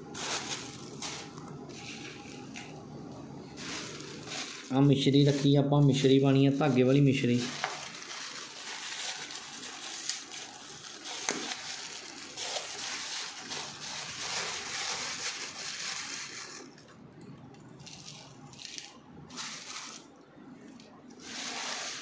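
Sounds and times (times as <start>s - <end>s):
plastic bag crinkling: 0.0s - 17.0s, 17.6s - 20.2s, 21.2s - 22.0s.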